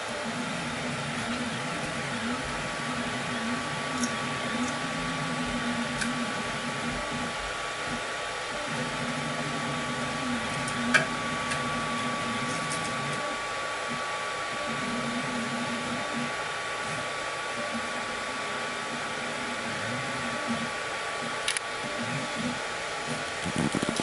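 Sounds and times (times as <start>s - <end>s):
cooling fans whirring: 0.0s - 24.0s.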